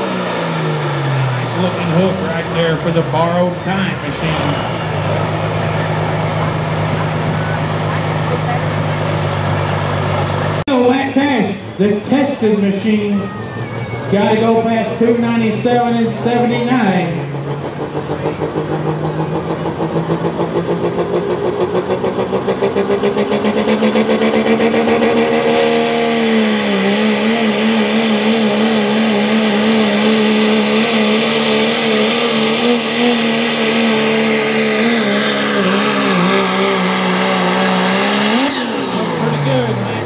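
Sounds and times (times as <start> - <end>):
diesel truck engine at full throttle: 0.0 - 40.0.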